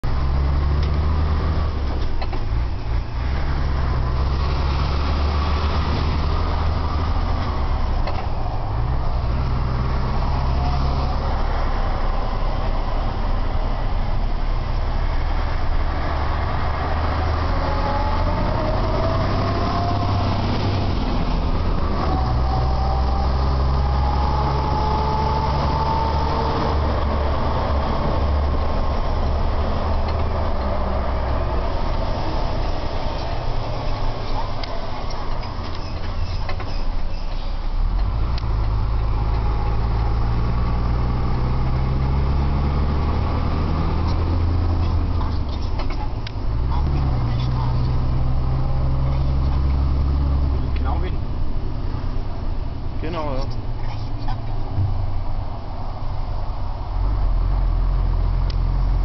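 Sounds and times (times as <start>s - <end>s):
diesel engine rumble inside cab: 0.0s - 59.0s
engine whine: 0.0s - 59.0s.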